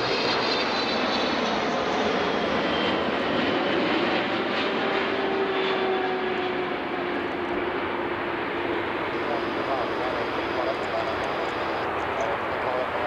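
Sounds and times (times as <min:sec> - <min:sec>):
jet plane passing low: 0:00.0 - 0:13.0.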